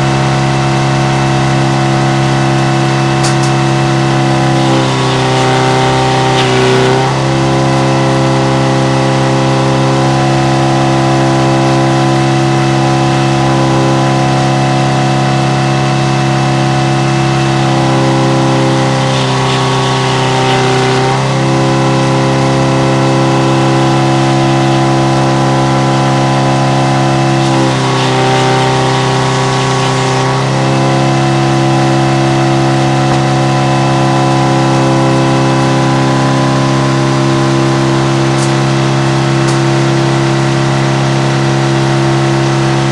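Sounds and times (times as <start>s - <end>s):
sawmill mechanical drone: 0.0s - 42.9s.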